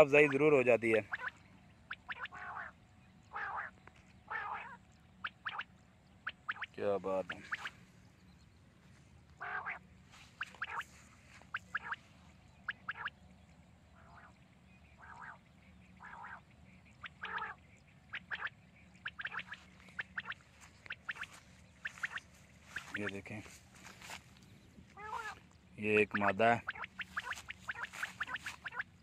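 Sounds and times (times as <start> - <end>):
quail calling: 0.0 - 8.0, 9.3 - 13.2, 13.9 - 29.0.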